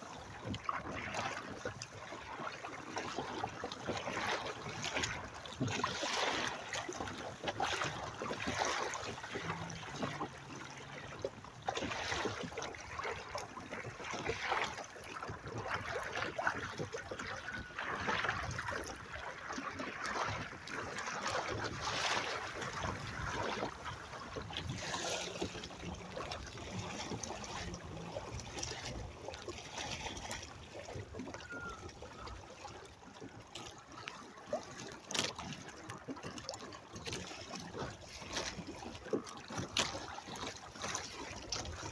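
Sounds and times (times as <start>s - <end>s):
water splashing against a hull: 0.0s - 41.9s.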